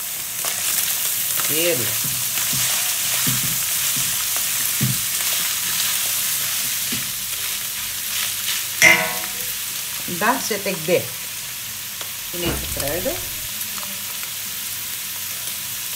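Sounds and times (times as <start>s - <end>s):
meat sizzling in a pan: 0.0s - 15.9s.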